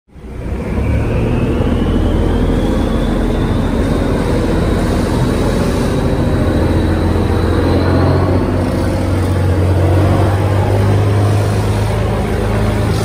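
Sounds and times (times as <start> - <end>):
boat engine whining: 0.1 - 13.0.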